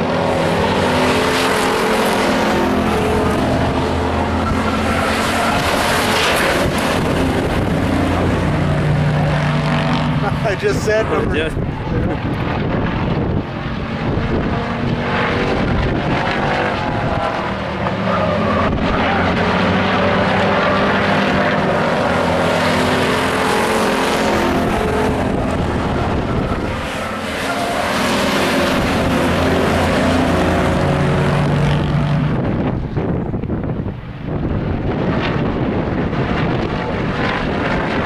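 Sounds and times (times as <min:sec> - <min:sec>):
race truck engines running hard: 0:00.0 - 0:38.0.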